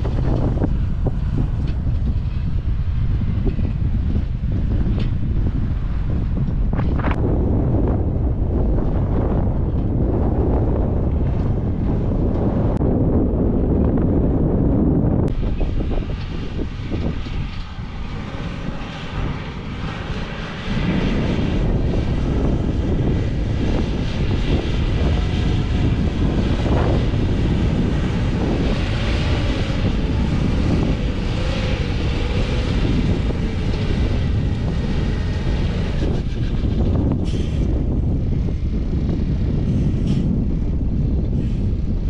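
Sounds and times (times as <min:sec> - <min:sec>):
drone motors humming: 0:00.0 - 0:42.0
wind on microphone: 0:00.0 - 0:42.0.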